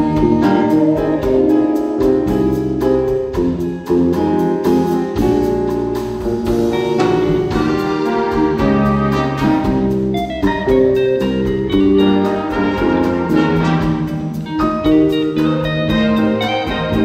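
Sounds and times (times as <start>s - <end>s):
slow jazz ballad with strings: 0.0s - 17.0s
steady drum kit beat: 0.0s - 17.0s.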